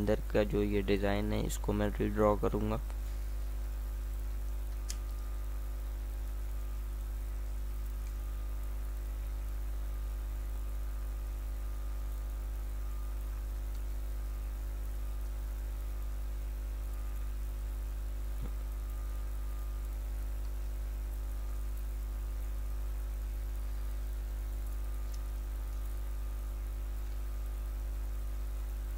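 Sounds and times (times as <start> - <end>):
electrical mains hum: 0.0 - 28.9.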